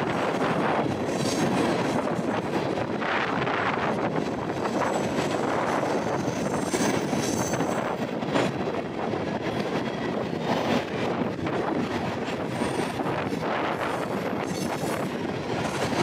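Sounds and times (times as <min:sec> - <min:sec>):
train wheels on track: 0:00.0 - 0:16.0.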